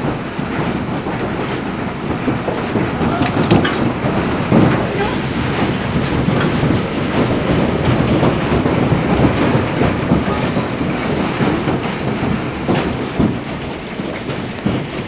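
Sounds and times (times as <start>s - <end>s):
hailstones clattering on hard surfaces: 0.0s - 15.0s.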